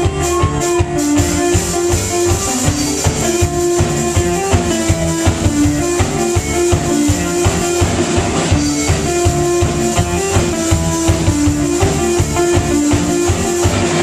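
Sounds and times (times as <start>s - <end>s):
bass guitar: 0.0s - 14.0s
drum kit steady beat: 0.0s - 14.0s
electric guitars: 0.0s - 14.0s
keyboard: 0.0s - 14.0s.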